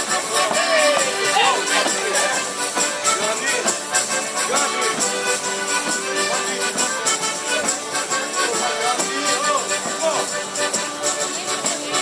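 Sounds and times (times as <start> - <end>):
accordion playing folk dance tune: 0.0 - 12.0.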